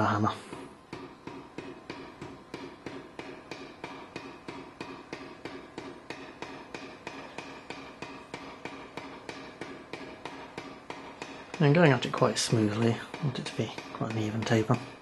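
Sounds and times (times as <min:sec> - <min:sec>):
power hammer striking steel: 0:00.0 - 0:15.0.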